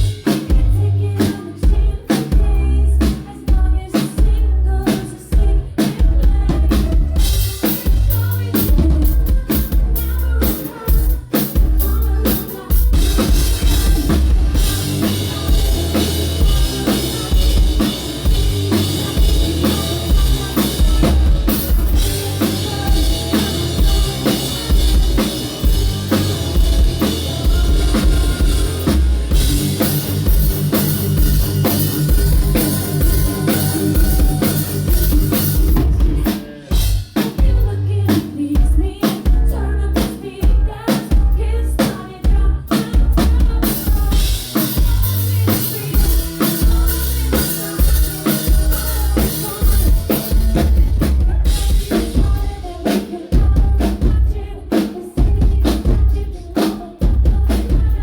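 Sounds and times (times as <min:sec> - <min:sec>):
deep bass: 0:00.0 - 0:10.5, 0:12.9 - 0:52.6
heavy drum beat: 0:00.0 - 0:58.0
loud live band music: 0:00.0 - 0:58.0.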